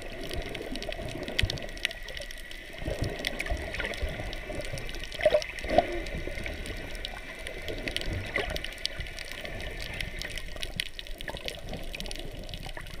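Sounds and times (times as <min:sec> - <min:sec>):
muffled underwater wash: 0:00.0 - 0:13.0
underwater clicks and crackles: 0:00.0 - 0:13.0.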